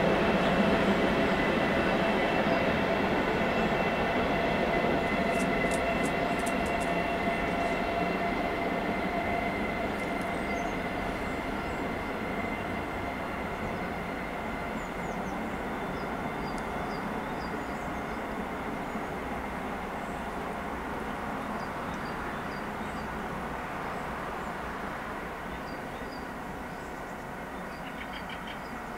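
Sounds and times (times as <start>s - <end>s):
distant train rumbling: 0.0s - 28.9s.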